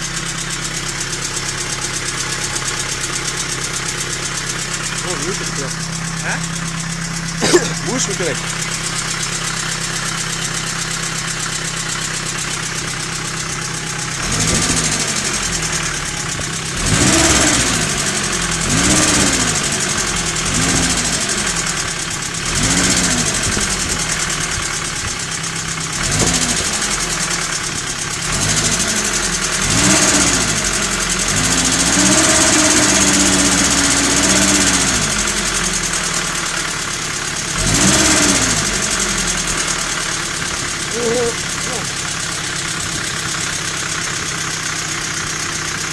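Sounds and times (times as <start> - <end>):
car engine idling and revving: 0.0 - 45.9
engine knocking: 0.0 - 45.9.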